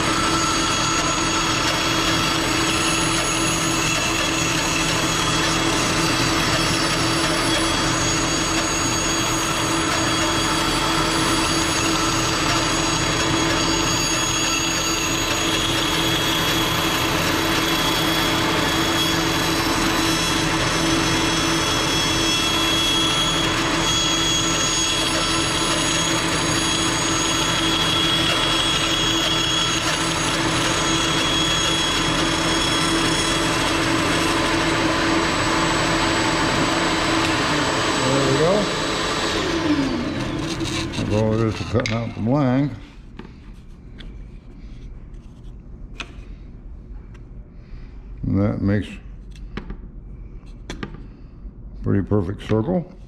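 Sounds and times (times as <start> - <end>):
power saw cutting wood: 0.0 - 42.8
vacuum cleaner running: 0.0 - 43.0.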